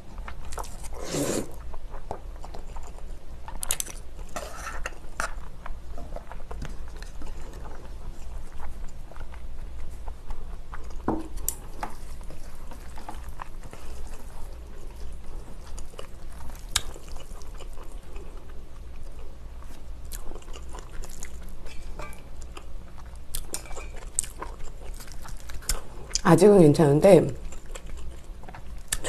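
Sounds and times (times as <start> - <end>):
person chewing noodles: 0.1 - 26.2, 27.4 - 29.0.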